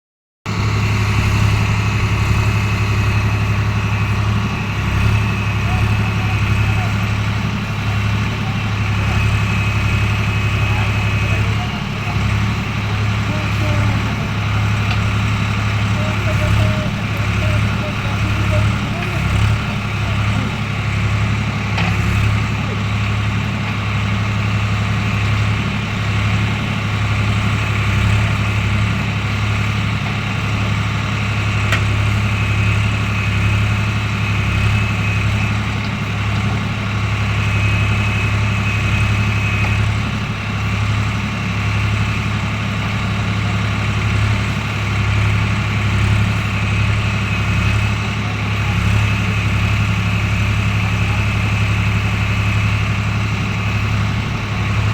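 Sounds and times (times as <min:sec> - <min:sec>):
tractor diesel engine running: 0:00.4 - 0:54.9.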